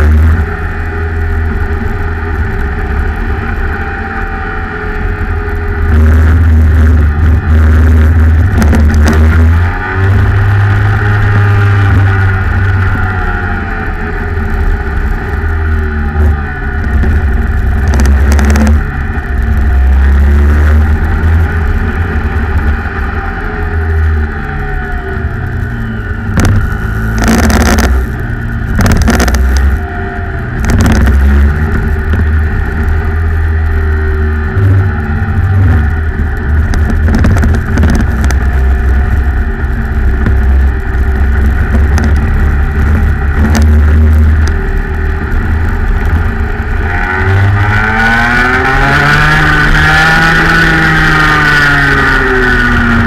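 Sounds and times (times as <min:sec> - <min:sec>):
kart engine at racing speed: 0:00.0 - 0:53.0.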